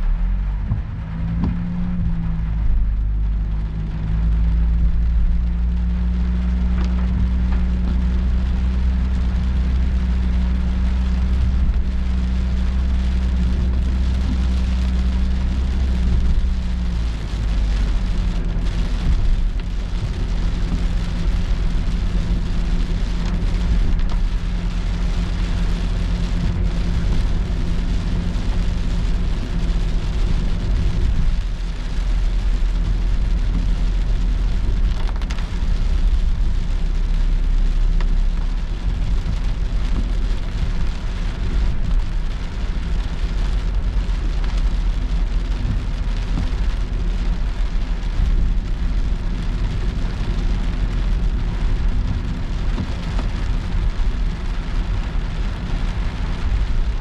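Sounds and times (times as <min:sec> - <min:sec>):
car driving on wet road: 0:00.0 - 0:57.0
rain on car windshield: 0:00.0 - 0:57.0.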